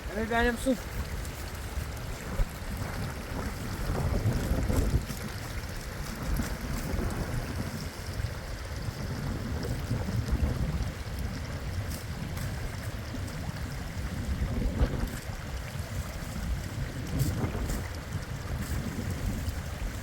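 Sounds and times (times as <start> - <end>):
river water rushing: 0.0 - 20.0
wind buffeting microphone: 0.0 - 20.0.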